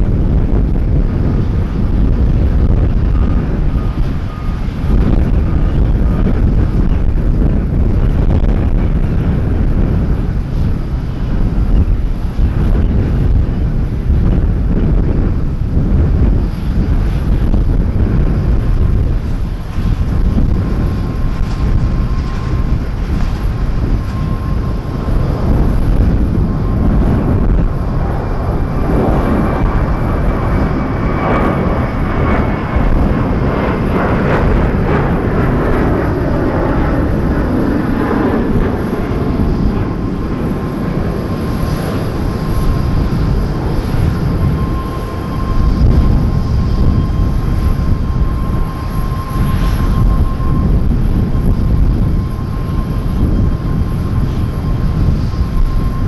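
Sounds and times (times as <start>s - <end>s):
jet airliner rumble and whine: 0.0s - 56.0s.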